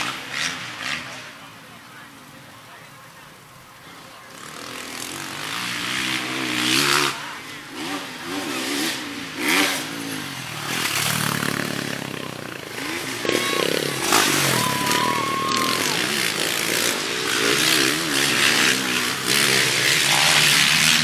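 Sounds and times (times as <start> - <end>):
dirt bike engine revving: 0.0 - 1.6, 4.0 - 21.0.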